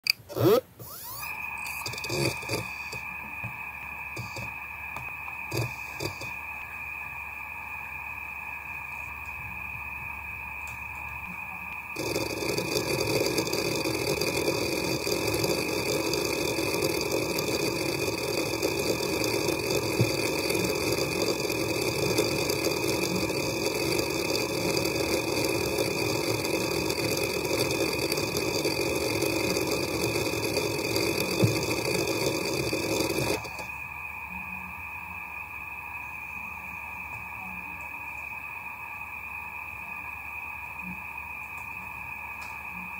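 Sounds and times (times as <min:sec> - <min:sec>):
hard drive high whine: 0:00.0 - 0:42.9
hard drive seek chatter: 0:00.0 - 0:42.9.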